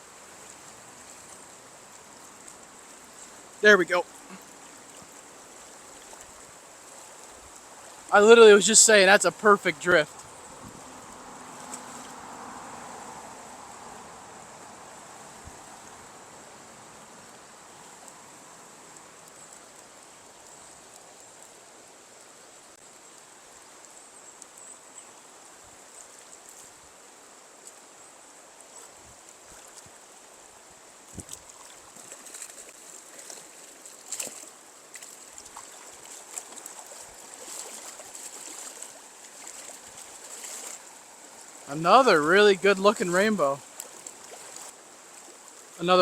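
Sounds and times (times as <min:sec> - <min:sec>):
river rushing: 0:00.0 - 0:20.4, 0:28.2 - 0:46.0.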